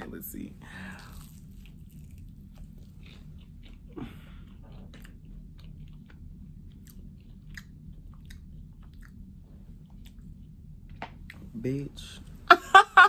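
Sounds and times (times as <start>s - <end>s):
person chewing: 0.8s - 11.5s.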